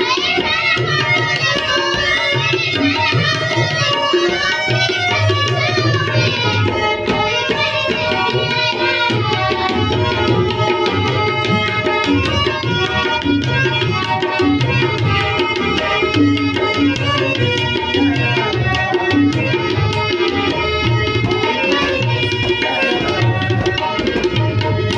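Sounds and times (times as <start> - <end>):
sustained melodic accompaniment: 0.0 - 24.9
tabla playing fast strokes: 0.0 - 24.9.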